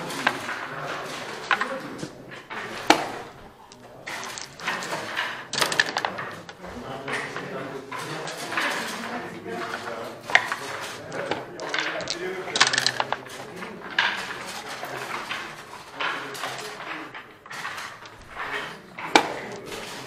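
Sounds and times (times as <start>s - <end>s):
checkers clicking on board: 0.0s - 20.0s
dice rattling on board: 0.0s - 20.0s.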